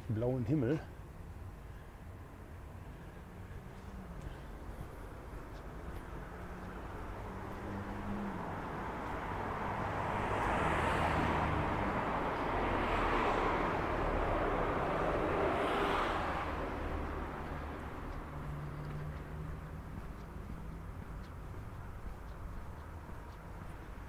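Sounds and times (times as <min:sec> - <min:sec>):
vehicles passing: 0:00.0 - 0:24.0.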